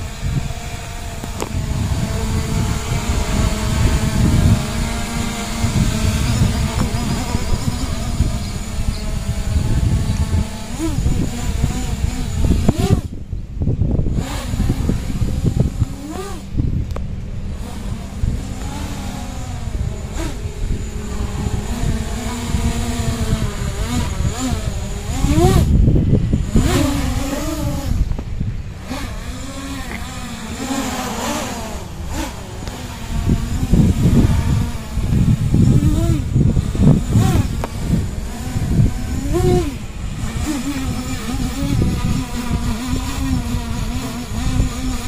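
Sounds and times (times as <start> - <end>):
drone motors whining: 0.0 - 45.0.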